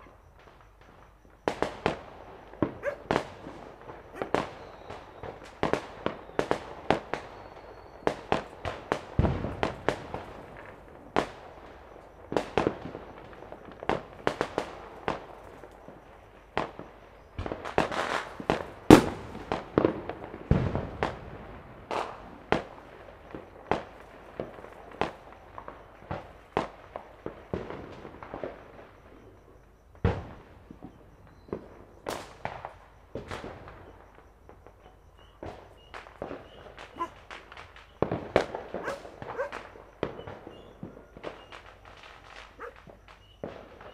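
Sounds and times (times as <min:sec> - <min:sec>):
deep firework booms: 0:00.0 - 0:43.9
firecrackers banging: 0:00.0 - 0:43.9.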